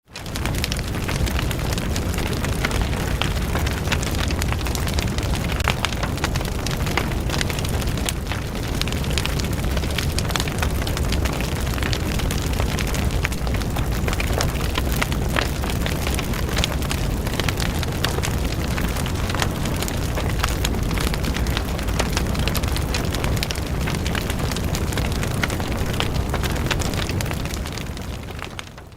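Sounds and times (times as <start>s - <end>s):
fire crackling and popping: 0.1s - 28.9s
fire rumble: 0.1s - 28.9s.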